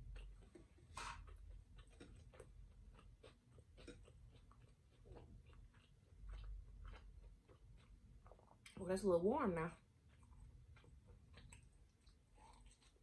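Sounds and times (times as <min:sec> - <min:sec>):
chewing chips: 0:00.0 - 0:08.8, 0:09.7 - 0:13.0.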